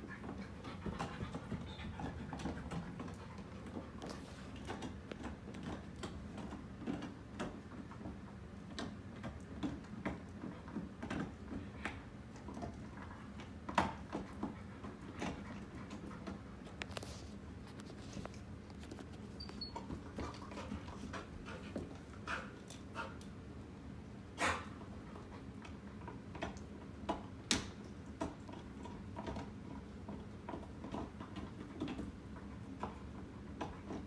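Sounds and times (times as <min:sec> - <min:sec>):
ceiling fan humming: 0:00.0 - 0:34.0.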